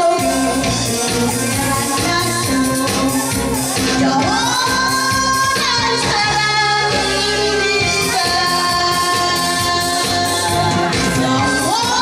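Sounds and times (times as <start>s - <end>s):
amplified backing music: 0.0s - 12.0s
woman singing into a microphone: 0.0s - 12.0s.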